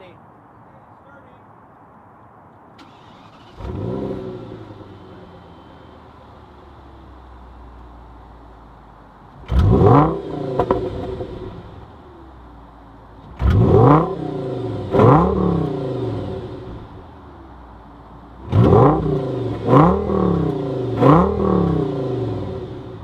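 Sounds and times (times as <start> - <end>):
car engine idling and revving: 2.8 - 23.0.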